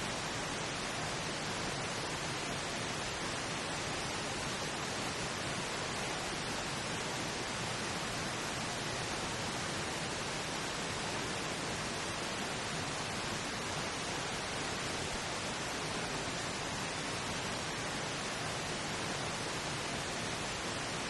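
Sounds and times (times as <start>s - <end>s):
pink noise hiss: 0.0s - 21.0s.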